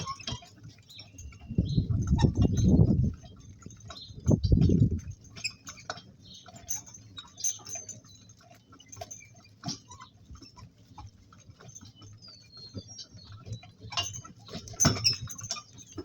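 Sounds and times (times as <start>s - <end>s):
cart knocking and clicking: 0.0s - 16.0s.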